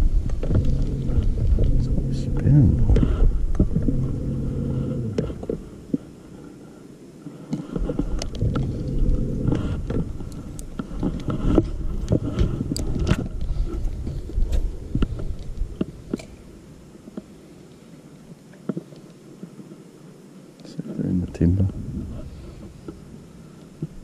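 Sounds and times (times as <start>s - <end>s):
boat rumbling: 0.0s - 19.5s, 20.9s - 24.0s.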